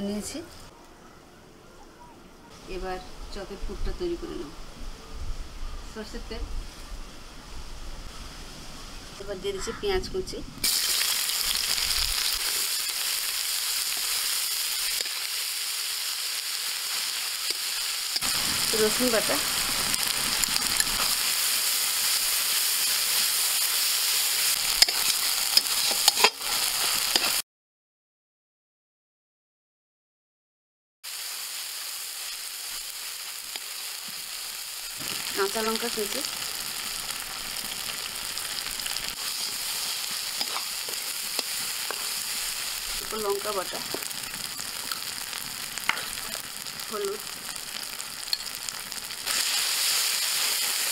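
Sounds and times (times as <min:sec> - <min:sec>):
onions sizzling in oil: 0:05.4 - 0:27.4, 0:31.0 - 0:50.9.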